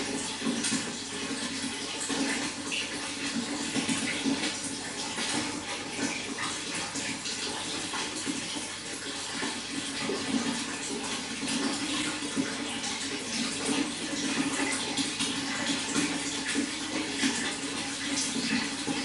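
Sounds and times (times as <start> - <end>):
running water pouring and splashing: 0.0 - 19.0.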